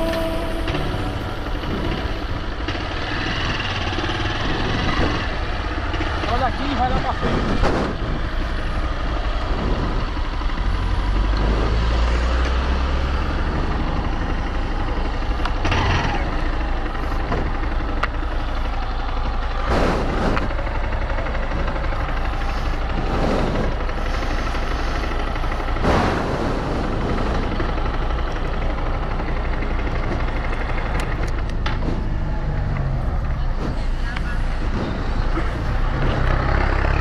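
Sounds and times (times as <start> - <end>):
motorcycle engine at low speed: 0.0 - 37.0.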